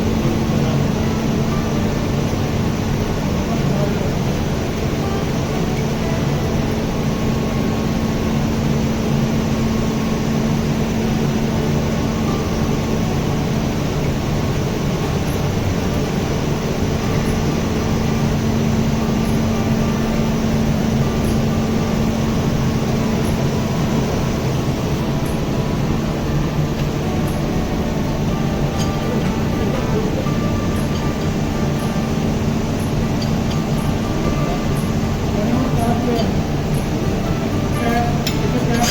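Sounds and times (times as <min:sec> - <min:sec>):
machinery hum and drone: 0:00.0 - 0:38.9.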